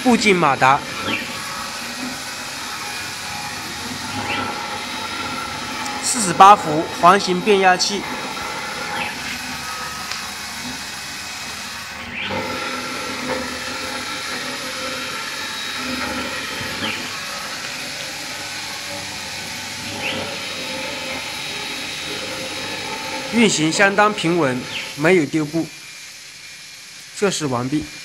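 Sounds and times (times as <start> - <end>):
stepper motors whirring: 0.0 - 28.0.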